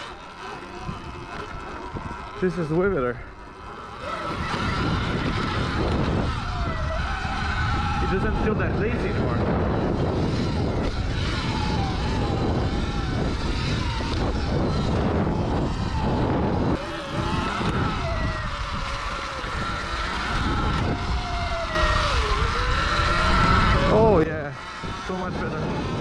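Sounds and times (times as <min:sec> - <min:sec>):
electric motor whine: 0:00.0 - 0:26.0
riding noise rush: 0:00.0 - 0:26.0.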